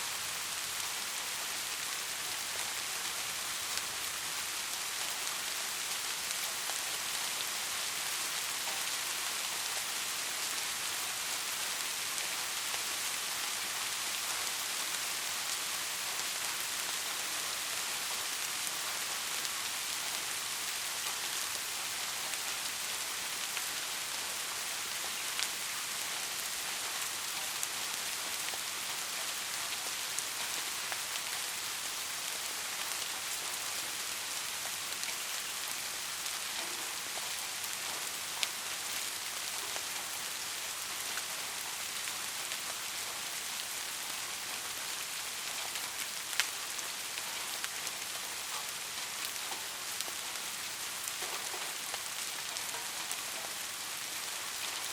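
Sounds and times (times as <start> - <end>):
soft rain hiss: 0.0 - 54.9.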